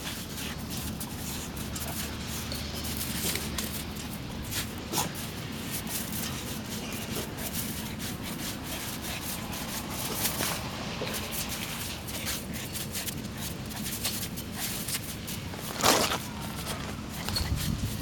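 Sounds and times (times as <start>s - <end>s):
dog paws scraping snow: 0.0s - 18.0s.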